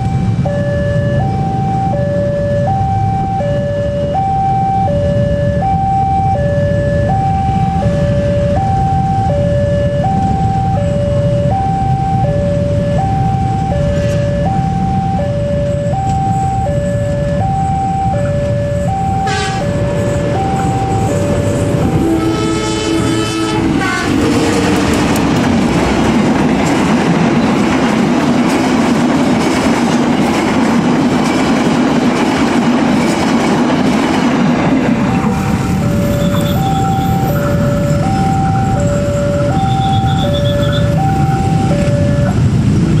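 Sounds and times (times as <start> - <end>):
two-tone crossing alarm: 0.0 - 28.0, 33.8 - 43.0
motorcycle engines idling and revving: 0.0 - 43.0.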